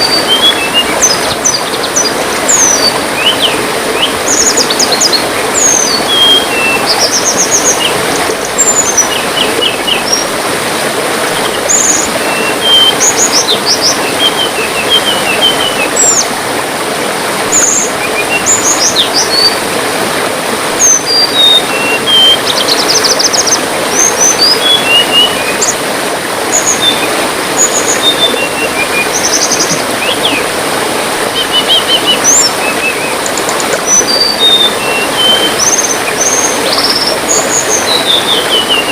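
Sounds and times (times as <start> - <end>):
bird chirps and trills: 0.0 - 10.3, 11.4 - 16.3, 20.8 - 25.8, 26.5 - 30.4, 31.3 - 38.9
trickling water: 0.0 - 38.9.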